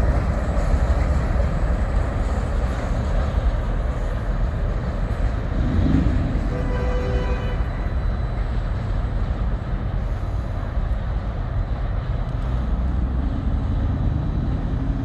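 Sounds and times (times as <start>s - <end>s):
freight train rumbling by: 0.0s - 15.0s.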